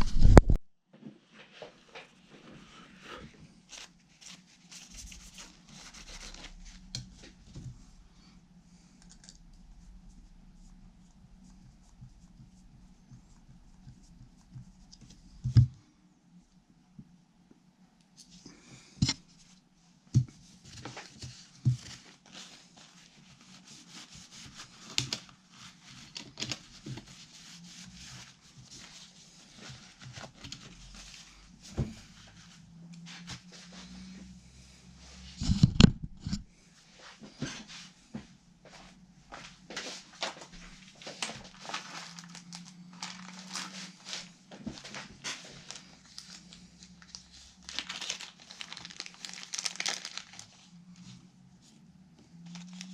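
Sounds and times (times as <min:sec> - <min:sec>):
rustling and crinkling: 0:00.0 - 0:08.2, 0:18.1 - 0:52.9
faint low hum: 0:00.0 - 0:49.4.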